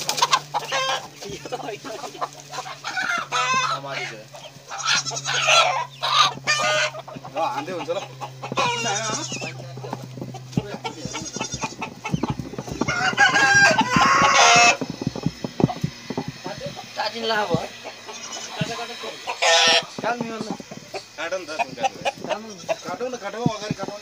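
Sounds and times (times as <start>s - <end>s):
chicken squawking and clucking: 0.0s - 24.0s.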